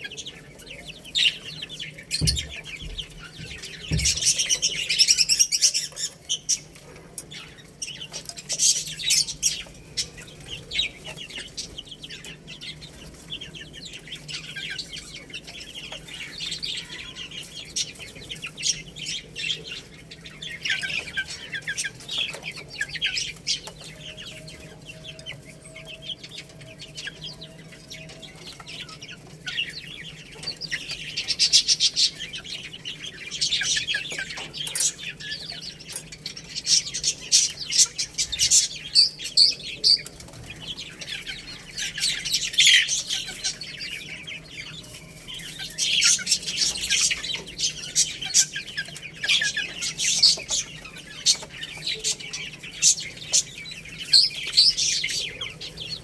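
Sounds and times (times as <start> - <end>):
baby chicks cheeping: 0.0 - 56.0.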